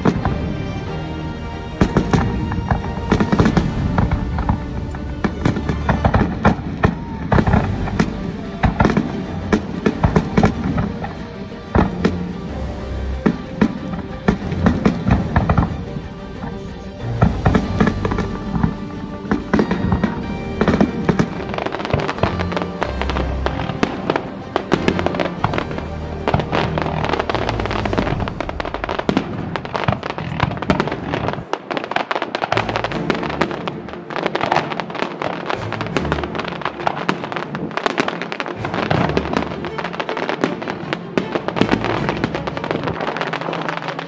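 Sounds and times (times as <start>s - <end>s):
fireworks cracking and popping: 0.0s - 1.0s, 1.7s - 44.0s
music playing: 0.0s - 44.0s.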